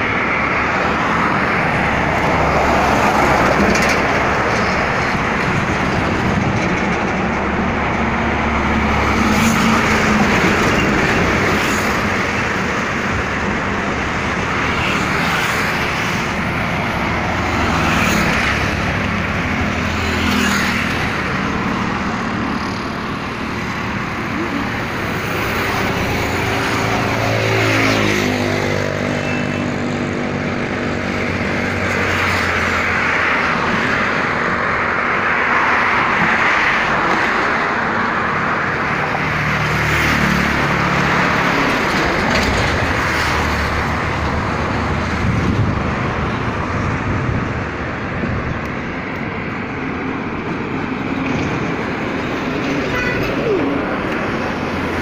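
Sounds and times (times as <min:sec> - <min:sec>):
highway traffic tyre and engine noise: 0:00.0 - 0:55.0
vehicles passing by: 0:00.0 - 0:55.0.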